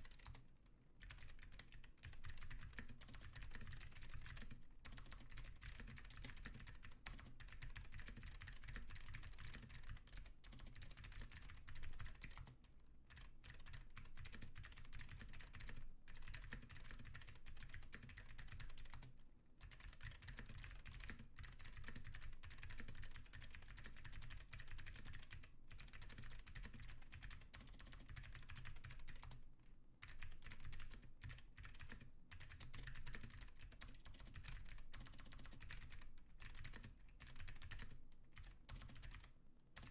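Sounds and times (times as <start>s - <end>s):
fast clicky keyboard typing: 0.0s - 0.4s, 1.0s - 29.4s, 30.0s - 39.9s.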